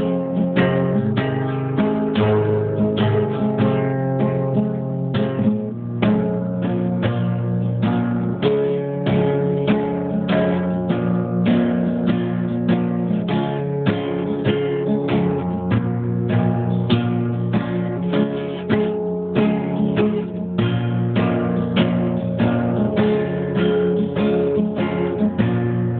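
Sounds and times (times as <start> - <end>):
acoustic guitar strumming: 0.0 - 25.9.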